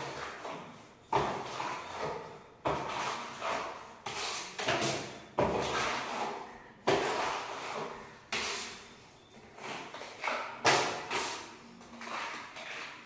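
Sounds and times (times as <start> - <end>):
putty knife scraping wall: 0.0 - 13.0.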